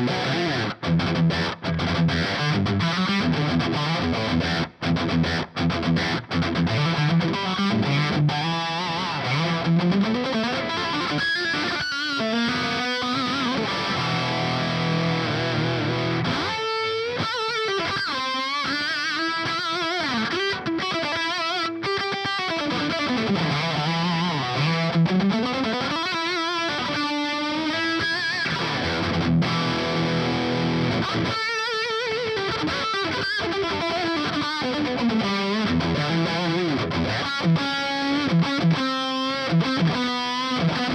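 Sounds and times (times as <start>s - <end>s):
distorted electric guitar riffing: 0.0s - 40.9s.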